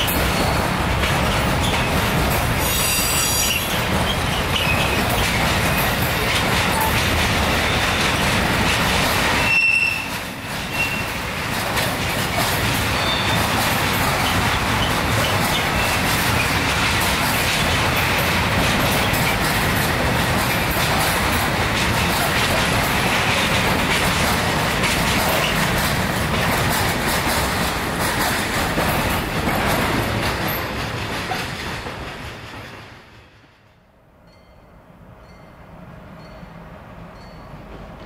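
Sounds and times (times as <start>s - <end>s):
train wheels rushing over rails: 0.0s - 33.9s.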